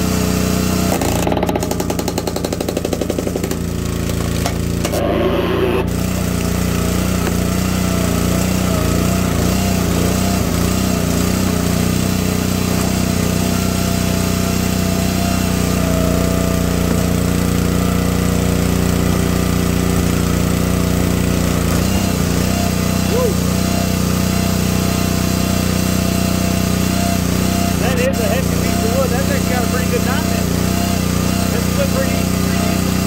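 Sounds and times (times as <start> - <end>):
log splitter whining through wood: 0.0 - 33.0
small gas engine running: 0.0 - 33.0.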